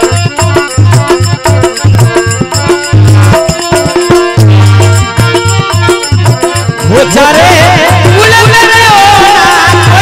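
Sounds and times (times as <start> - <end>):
dholak drum rhythm: 0.0 - 10.0
harmonium: 0.0 - 10.0.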